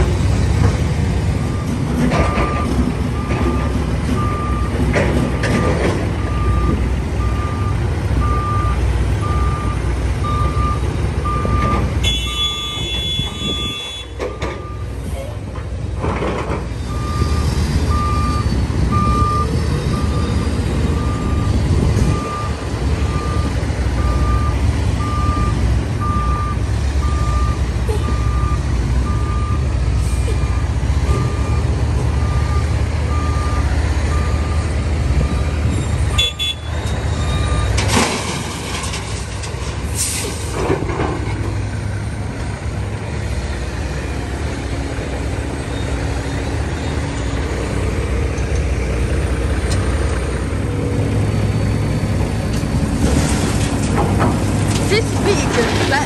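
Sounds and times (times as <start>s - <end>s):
diesel engine rumble: 0.0s - 56.0s.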